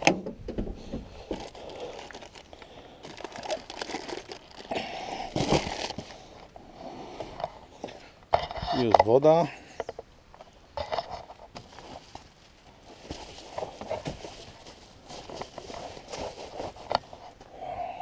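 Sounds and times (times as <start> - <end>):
crinkling and rustling: 0.0 - 6.6, 7.2 - 17.5.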